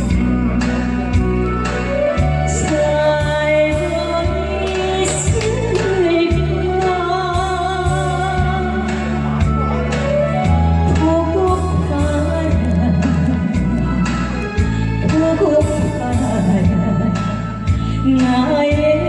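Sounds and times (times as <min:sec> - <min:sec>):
backing track with bass and beat: 0:00.0 - 0:19.0.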